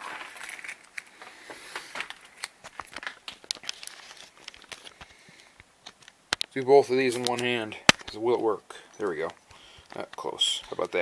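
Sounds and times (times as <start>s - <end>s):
rustling handling noise: 0.0s - 11.0s.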